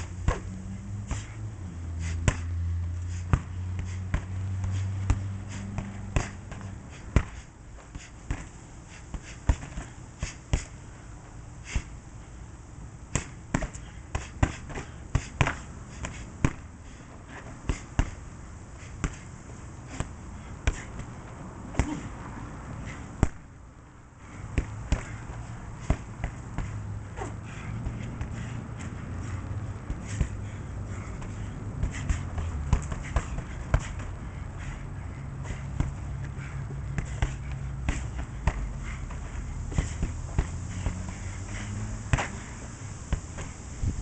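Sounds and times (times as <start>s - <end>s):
punches thudding on punching bag: 0.2s - 1.4s, 2.0s - 10.8s, 13.1s - 22.2s, 22.8s - 23.5s, 24.2s - 43.6s.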